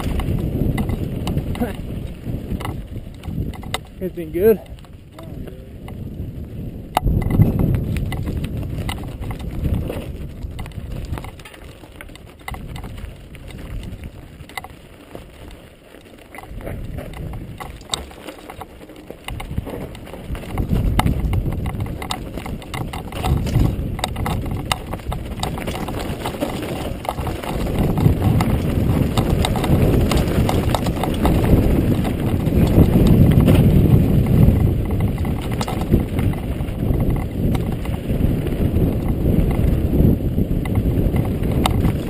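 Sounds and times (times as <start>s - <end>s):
bike rattling over rocks: 0.0s - 42.0s
tyres crunching over gravel: 0.0s - 42.0s
wind rumbling on microphone: 0.0s - 42.0s.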